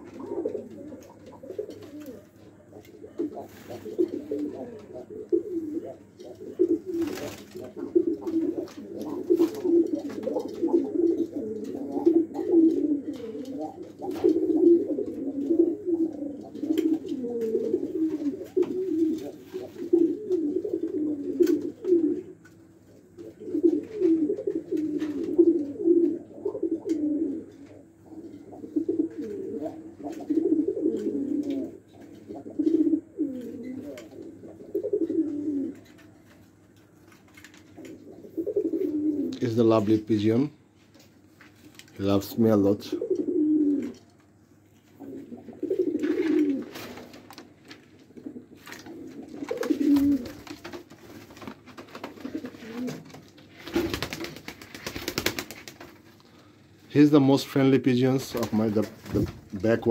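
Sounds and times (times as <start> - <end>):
pigeons cooing: 0.0 - 36.3, 37.6 - 40.5, 42.6 - 44.1, 44.9 - 56.8.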